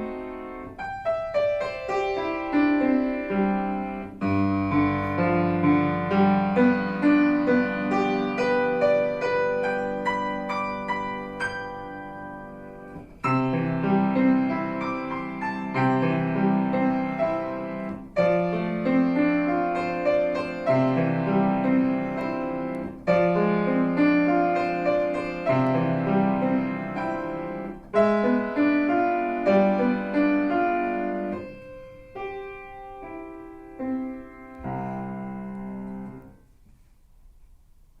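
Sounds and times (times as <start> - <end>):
slow solo piano piece: 0.0 - 38.0.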